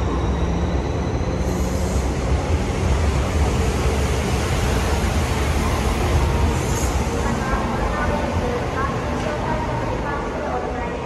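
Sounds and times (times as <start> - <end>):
electric train rushing: 0.0 - 11.0.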